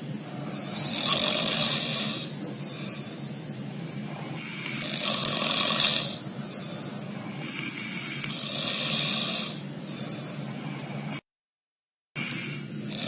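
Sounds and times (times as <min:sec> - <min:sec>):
man snoring: 0:00.3 - 0:03.0, 0:03.8 - 0:11.3, 0:12.1 - 0:13.0.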